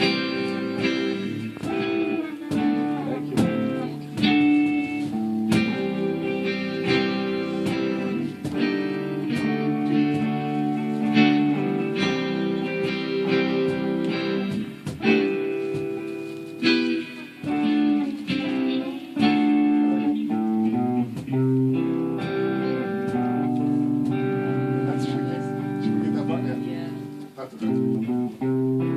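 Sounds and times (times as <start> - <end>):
guitar single-note run: 0.0 - 28.9
guitar strummed chords: 0.0 - 28.9.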